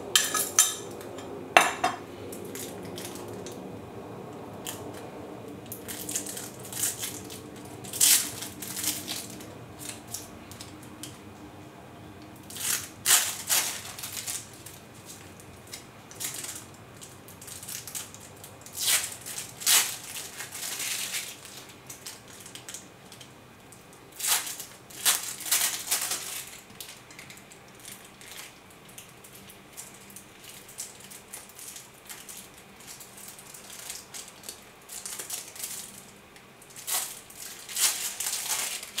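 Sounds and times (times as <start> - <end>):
crinkling packaging: 2.3 - 3.6, 4.6 - 11.2, 12.4 - 39.0.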